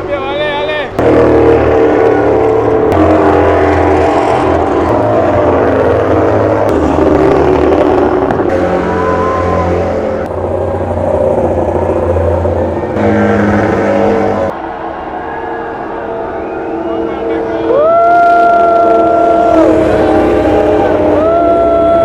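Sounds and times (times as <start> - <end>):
racing motorcycle engines: 0.0 - 22.0.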